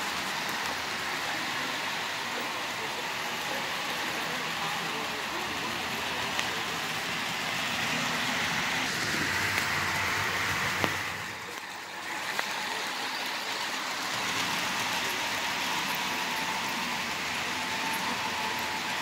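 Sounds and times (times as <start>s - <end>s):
clicks of model train track: 0.0s - 19.0s
model trains whirring on track: 0.0s - 19.0s.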